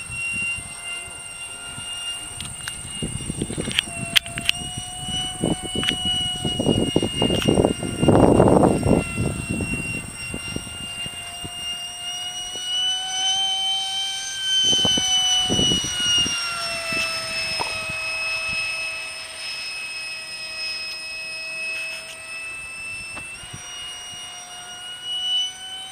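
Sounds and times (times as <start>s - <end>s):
model jet fan whine: 0.0s - 25.9s.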